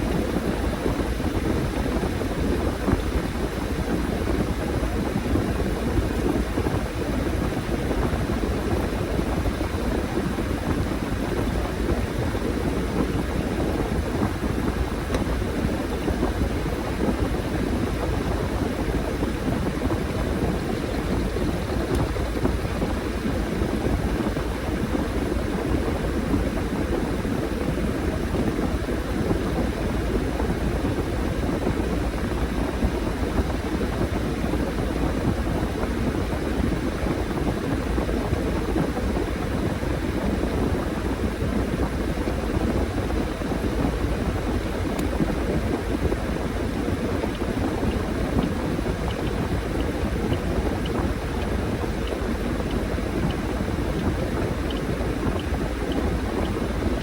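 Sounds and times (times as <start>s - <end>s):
washing machine whirring: 0.0s - 57.0s.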